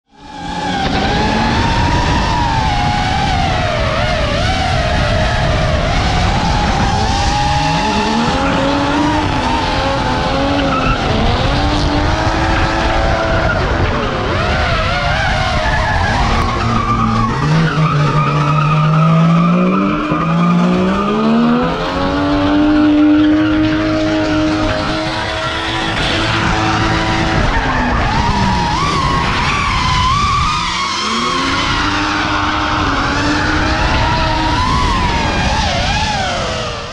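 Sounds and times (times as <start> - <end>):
car engines revving hard: 0.1 - 36.9
tires squealing and skidding: 0.1 - 36.9.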